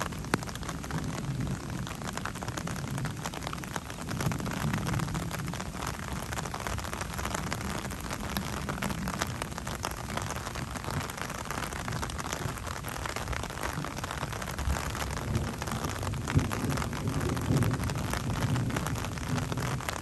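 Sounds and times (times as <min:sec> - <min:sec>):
rain patter: 0:00.0 - 0:20.0.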